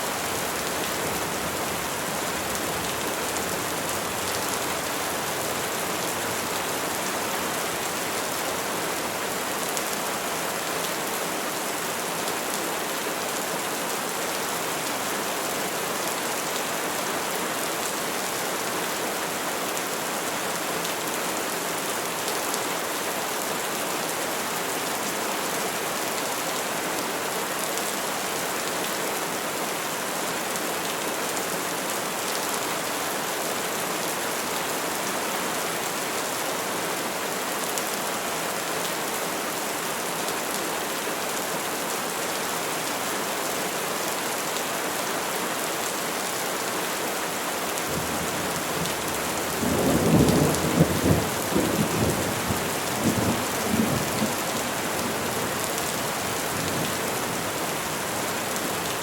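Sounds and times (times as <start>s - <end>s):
rain falling on trees: 0.0s - 59.0s.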